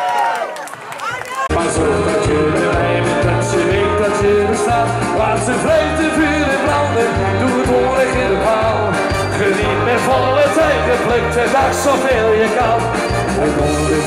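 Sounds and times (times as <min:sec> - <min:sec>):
backing track with bass beat: 0:01.5 - 0:14.0
man singing into a microphone: 0:01.5 - 0:14.0.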